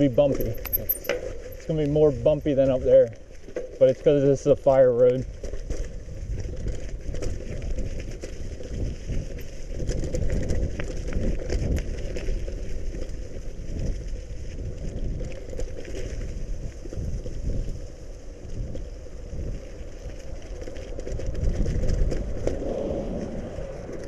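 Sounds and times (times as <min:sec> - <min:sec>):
bike rattling and clicking: 0:00.0 - 0:24.0
bike tyres rumbling on gravel: 0:00.0 - 0:24.0.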